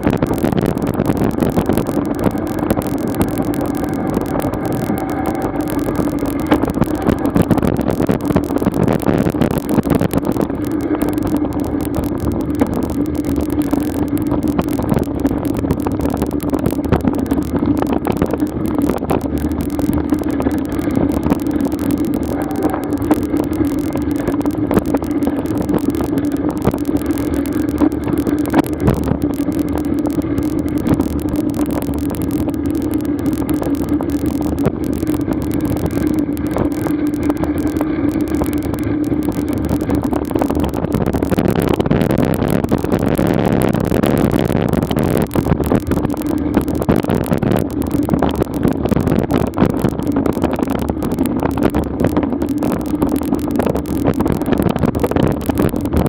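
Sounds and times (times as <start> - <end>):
rushing noise: 0.0 - 56.0
vehicle hum on paved road: 0.0 - 56.0.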